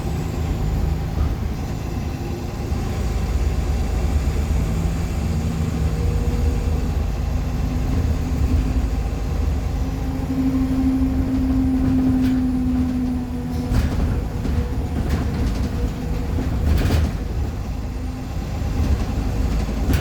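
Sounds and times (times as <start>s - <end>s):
bus interior engine rumble: 0.0s - 20.0s.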